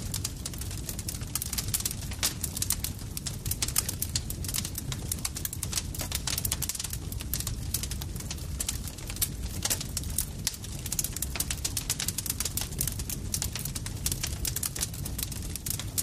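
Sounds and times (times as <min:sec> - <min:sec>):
campfire crackling: 0:00.0 - 0:16.0
low rumble of burning fire: 0:00.0 - 0:16.0.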